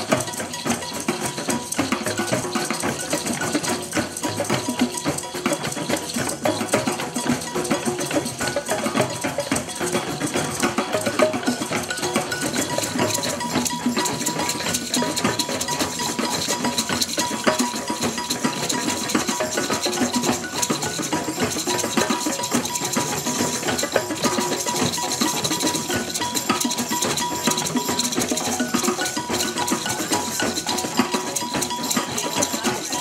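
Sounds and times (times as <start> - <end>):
music with rattling percussion: 0.0 - 33.0.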